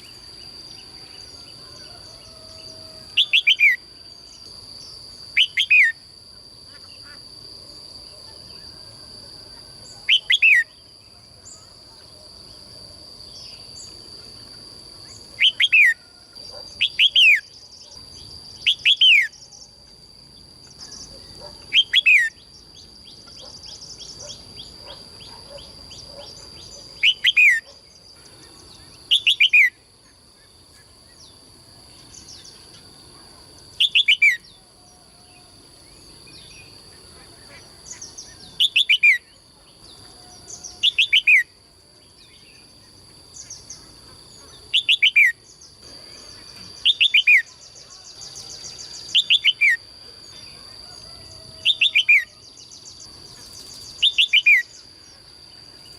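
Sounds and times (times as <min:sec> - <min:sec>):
songbird singing: 0:00.0 - 0:55.9
steady high-pitched whine: 0:00.0 - 0:55.9.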